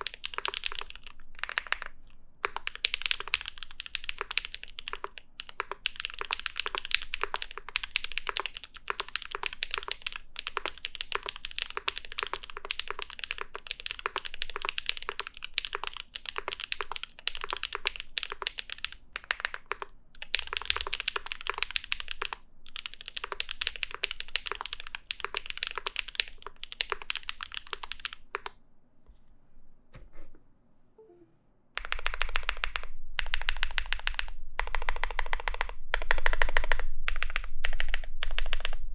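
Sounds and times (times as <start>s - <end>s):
mechanical keyboard typing: 0.0s - 28.6s, 31.8s - 38.8s.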